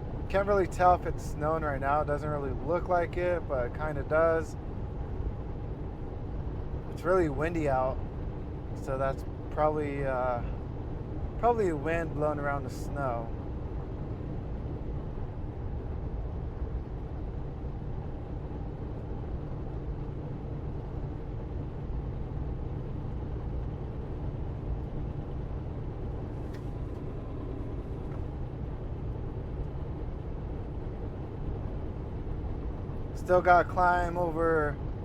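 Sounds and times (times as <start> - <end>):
truck engine and road noise: 0.0 - 35.0.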